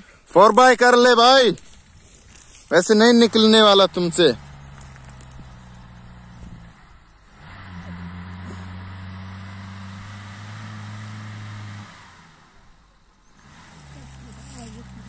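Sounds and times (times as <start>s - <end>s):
car engine revving: 2.1s - 15.0s.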